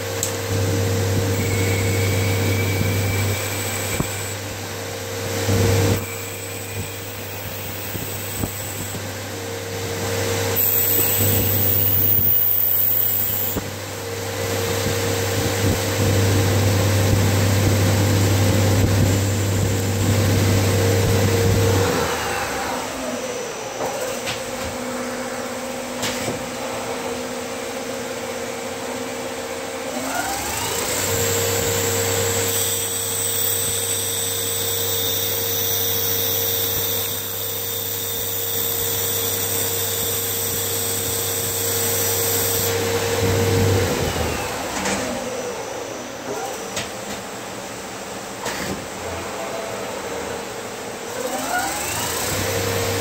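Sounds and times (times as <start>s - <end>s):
lathe machine hum: 0.0s - 46.6s.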